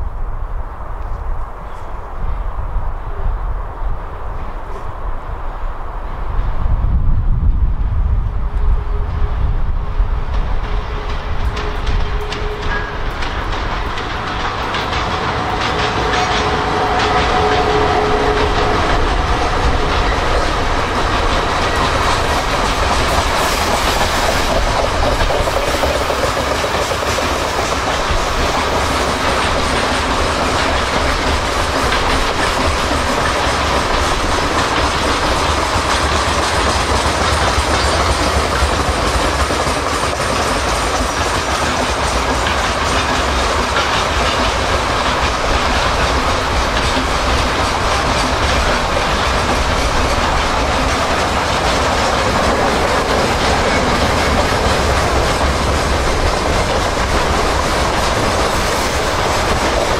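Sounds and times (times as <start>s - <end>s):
locomotive whine: 4.4s - 59.9s
train wheels clickety-clack: 6.4s - 59.9s.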